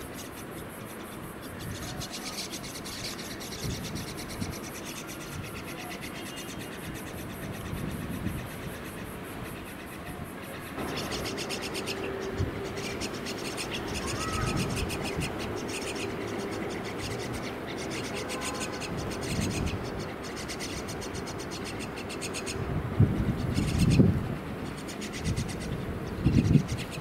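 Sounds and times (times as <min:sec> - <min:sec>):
bird chicks begging chatter: 0:00.0 - 0:27.0.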